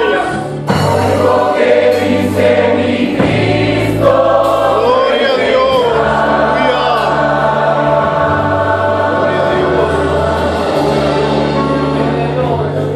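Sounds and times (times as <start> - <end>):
mixed choir singing a hymn: 0.0 - 12.9.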